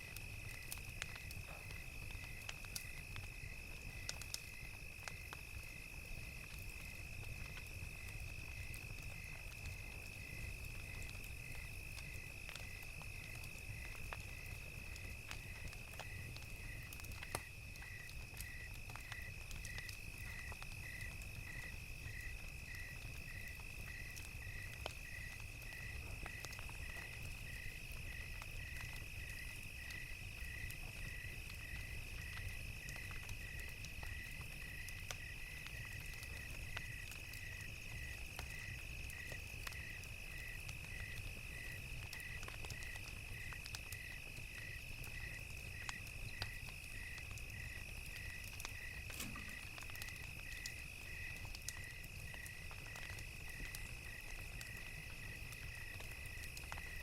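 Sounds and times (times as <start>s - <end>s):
crickets chirping: 0.0s - 57.0s
wood fire crackling: 0.0s - 57.0s.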